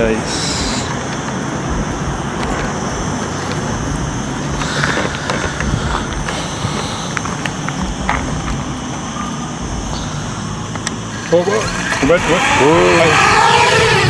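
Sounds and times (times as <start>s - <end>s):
drone propeller whine: 0.0s - 14.0s
low outdoor rumble: 0.0s - 14.0s.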